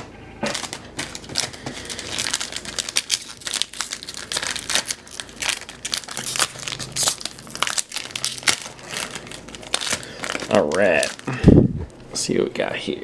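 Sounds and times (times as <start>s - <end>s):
pack torn open by hand: 0.4s - 11.4s
foil wrappers crinkling: 0.4s - 11.5s.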